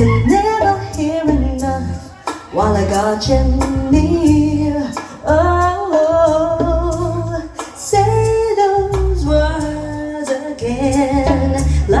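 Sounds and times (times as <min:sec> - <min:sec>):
heavy bass: 0:00.0 - 0:12.0
pop ballad over speaker: 0:00.0 - 0:12.0.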